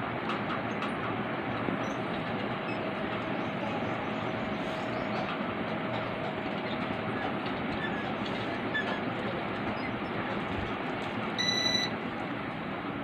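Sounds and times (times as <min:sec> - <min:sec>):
ceiling fan air rushing: 0:00.0 - 0:13.0
fan motor noise: 0:00.0 - 0:13.0.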